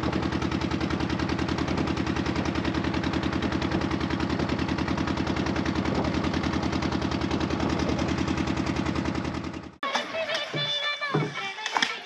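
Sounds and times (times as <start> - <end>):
motor boat engine chugging: 0.0 - 11.4.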